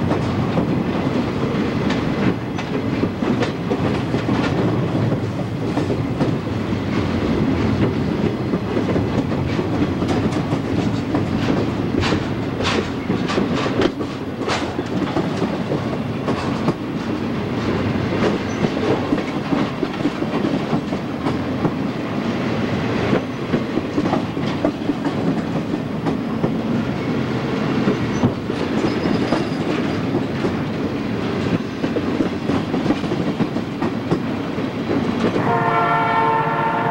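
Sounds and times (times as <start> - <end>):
wheels clicking over rail joints: 0.0 - 22.0, 27.8 - 35.4
train wheels rumbling on rail: 0.0 - 36.9.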